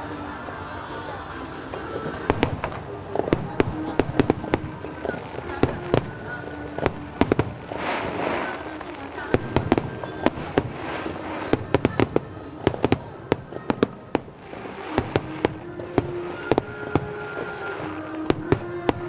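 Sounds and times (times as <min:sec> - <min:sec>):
fireworks bangs: 0:01.0 - 0:19.0.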